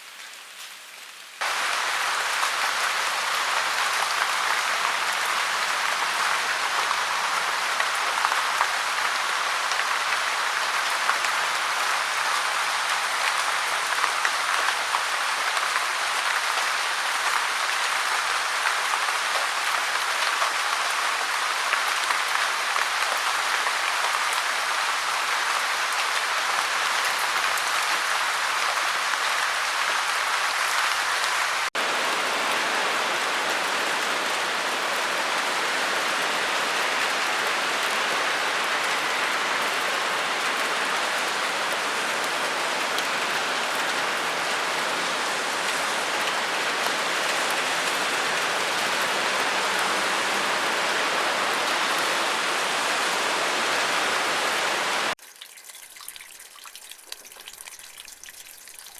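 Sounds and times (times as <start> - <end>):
rainwater splashing in a gutter: 0.0 - 58.9.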